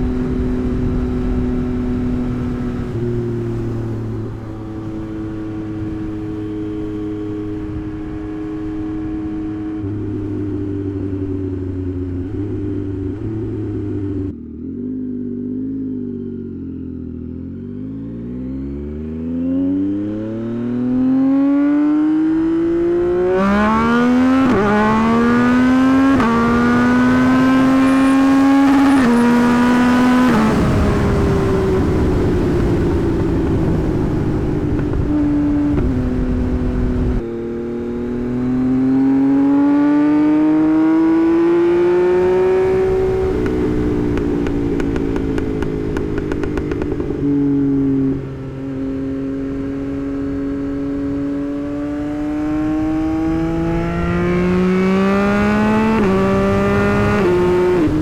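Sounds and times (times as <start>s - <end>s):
wind noise: 0.0s - 14.3s, 22.3s - 58.0s
motorcycle engine accelerating: 0.0s - 58.0s.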